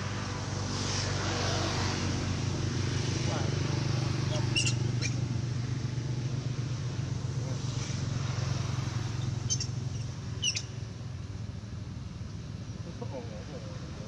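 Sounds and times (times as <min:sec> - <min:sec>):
vehicle engine running: 0:02.2 - 0:14.0.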